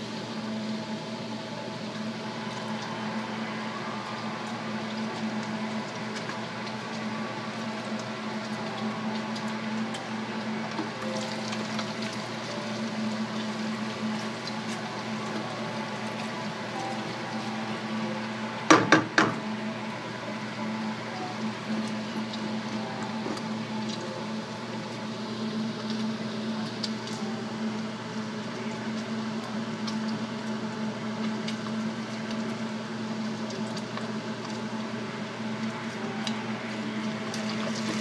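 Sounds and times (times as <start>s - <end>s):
bacon sizzling in a frying pan: 0.0s - 38.0s.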